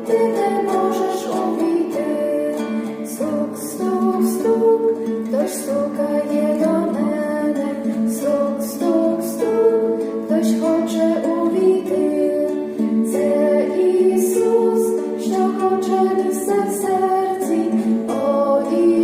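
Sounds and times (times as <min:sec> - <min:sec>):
person singing a religious song: 0:00.0 - 0:19.0
plucked string accompaniment: 0:00.0 - 0:19.0.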